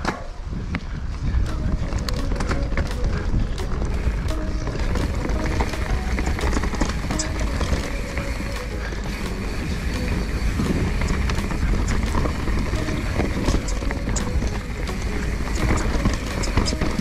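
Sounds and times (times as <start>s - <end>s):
bike clicks and rattles: 0.0s - 17.0s
wind and tyre rumble: 0.0s - 17.0s.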